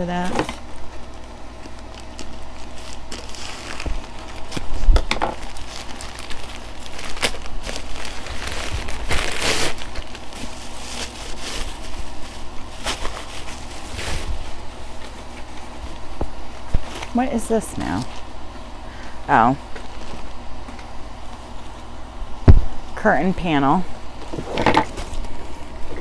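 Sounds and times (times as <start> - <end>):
packaging rustling and crinkling: 0.1 - 17.2, 19.6 - 21.9, 24.1 - 26.0.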